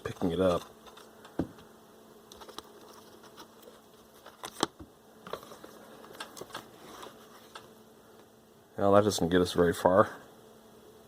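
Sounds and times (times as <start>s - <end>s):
faint steady buzz: 0.0s - 11.0s.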